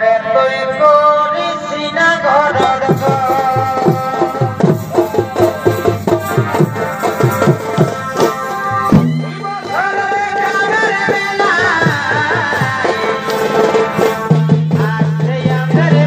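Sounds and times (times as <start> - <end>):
folk music melody: 2.6 - 16.0
hand drum strokes: 2.9 - 16.0.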